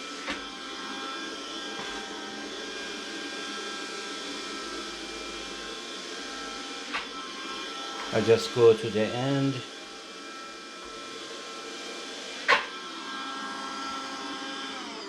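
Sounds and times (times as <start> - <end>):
window vacuum motor whine: 0.0 - 15.0.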